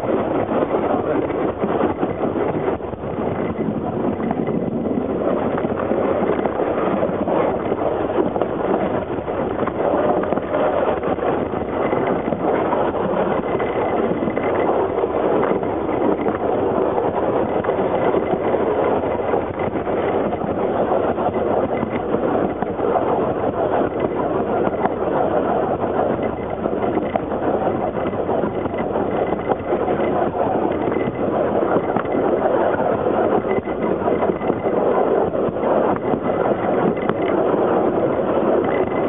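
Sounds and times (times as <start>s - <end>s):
train running noise: 0.0s - 39.0s
wind on microphone: 0.0s - 39.0s.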